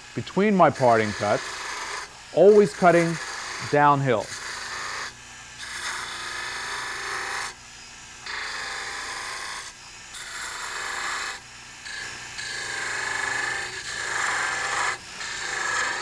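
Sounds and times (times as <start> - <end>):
lathe motor humming: 0.0 - 16.0
gouge rasping on spinning wood: 0.1 - 7.6, 8.2 - 16.0.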